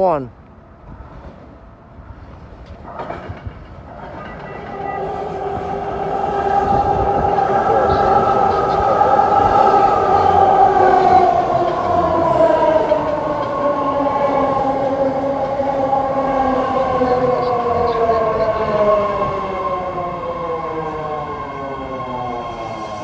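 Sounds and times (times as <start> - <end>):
train cars rumbling on rails: 0.5 - 23.0.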